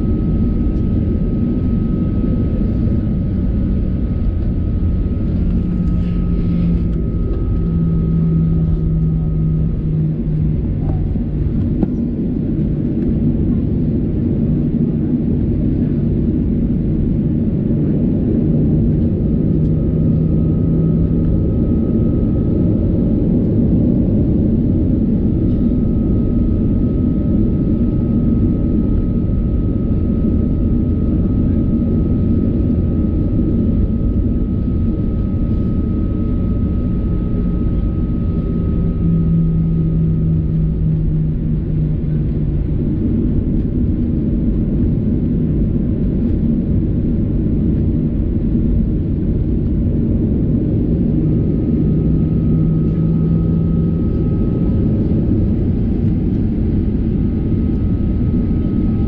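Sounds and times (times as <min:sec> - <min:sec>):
airplane cabin rumble: 0:00.0 - 0:59.0
deeper hum: 0:00.0 - 0:59.0.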